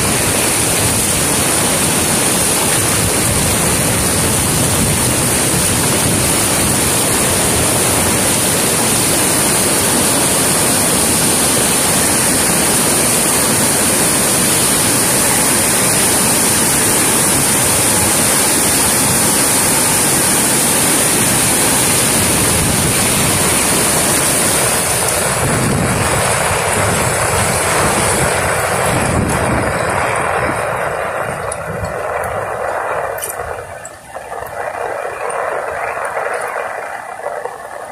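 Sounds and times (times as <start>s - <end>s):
water rushing down a stream: 0.0s - 37.9s.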